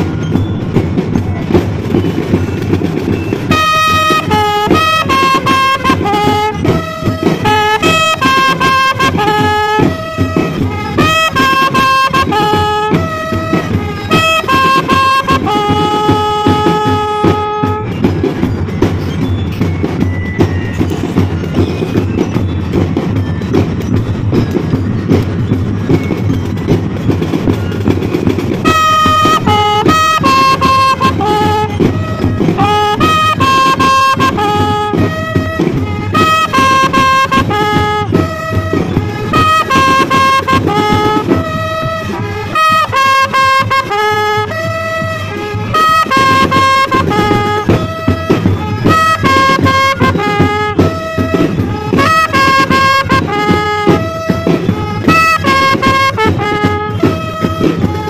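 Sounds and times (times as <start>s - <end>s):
bugles playing a melody: 0.0s - 58.0s
drums playing: 0.0s - 58.0s.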